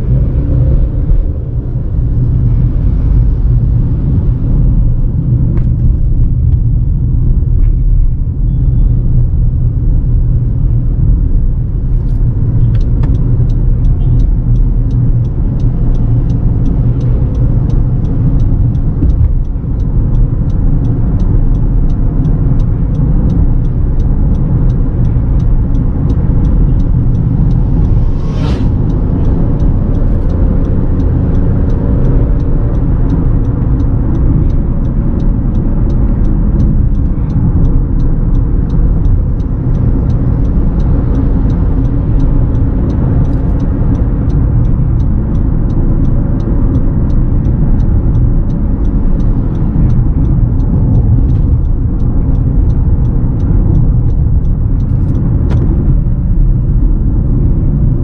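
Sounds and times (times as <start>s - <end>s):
car road and tyre noise: 0.0s - 58.0s.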